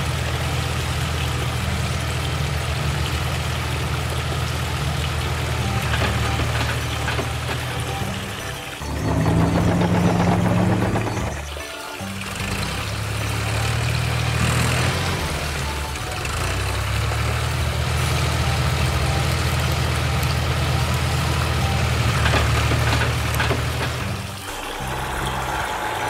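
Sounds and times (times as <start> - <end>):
toy engine idling hum: 0.0 - 26.0.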